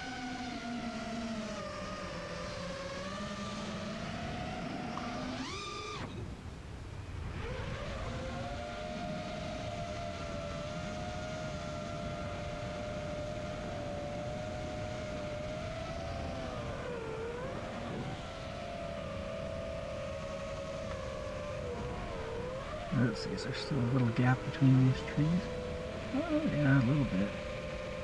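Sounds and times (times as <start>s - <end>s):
quadcopter motors whining: 0.0s - 6.5s, 7.1s - 28.0s.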